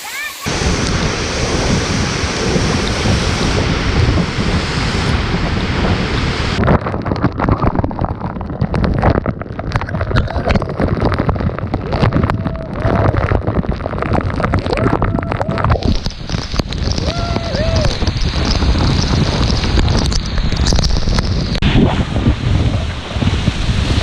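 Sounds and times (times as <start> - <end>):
waterfall roaring: 0.0 - 7.1, 10.3 - 24.0
wind buffeting microphone: 0.5 - 24.0.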